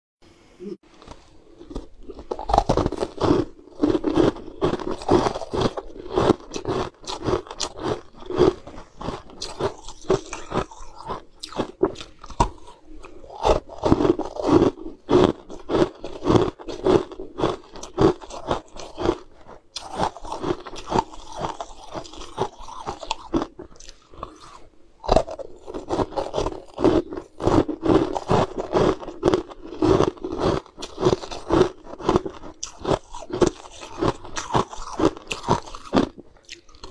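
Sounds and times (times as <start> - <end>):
crunching and chewing ice: 0.9 - 36.9.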